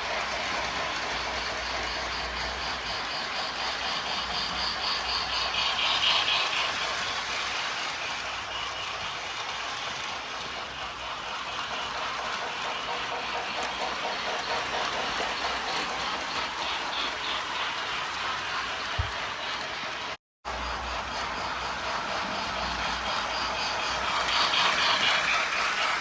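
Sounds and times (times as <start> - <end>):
toy train wheels rattling on rails: 0.0 - 26.0.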